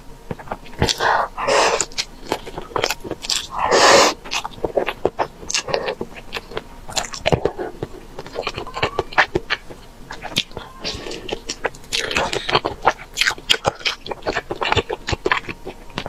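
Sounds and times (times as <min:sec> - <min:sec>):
chewing with wet mouth clicks: 0:00.3 - 0:16.0.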